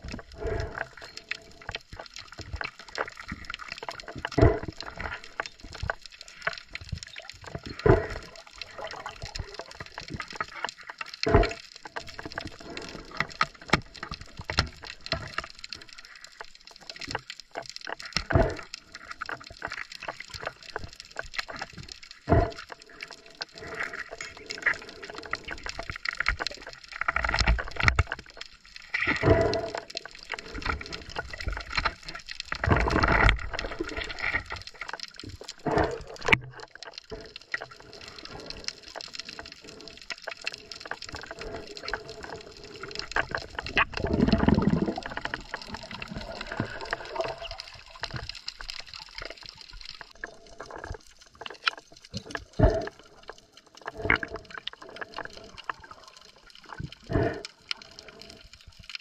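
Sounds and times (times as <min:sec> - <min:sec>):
underwater gurgling and sloshing: 0:00.0 - 0:59.0.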